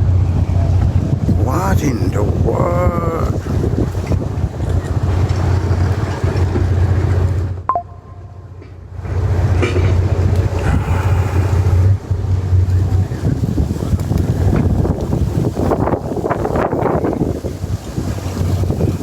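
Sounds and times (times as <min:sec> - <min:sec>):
wind buffeting microphone: 0:00.0 - 0:07.6, 0:08.8 - 0:19.0.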